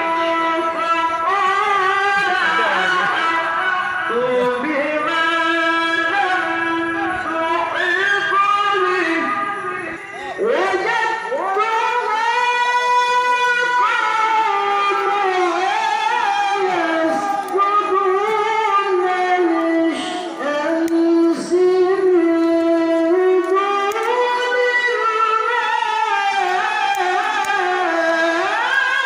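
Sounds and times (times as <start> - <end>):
person reciting melodically: 0.0 - 29.0.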